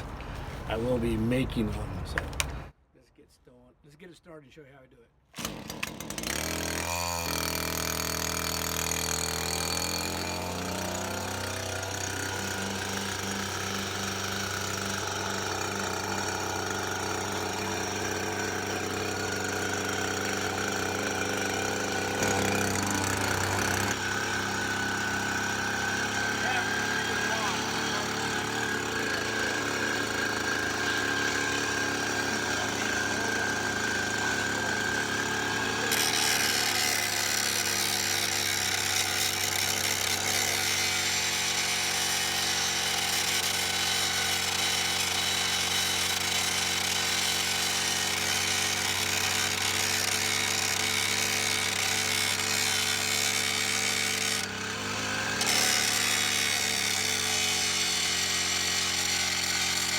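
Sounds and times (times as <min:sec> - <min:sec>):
cutoff wheel grinding metal: 0:05.4 - 0:59.9
weed eater engine running: 0:05.4 - 0:59.9.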